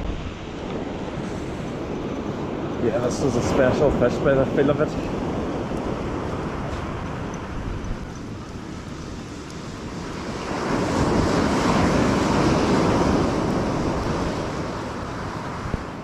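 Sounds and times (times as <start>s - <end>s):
wave breaking on beach: 0.0s - 7.6s, 8.3s - 16.0s
wind rumbling on microphone: 0.0s - 16.0s.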